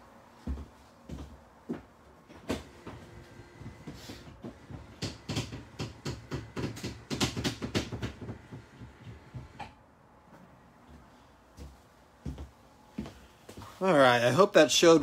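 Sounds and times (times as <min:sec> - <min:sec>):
faint motor hum: 0:00.1 - 0:13.8.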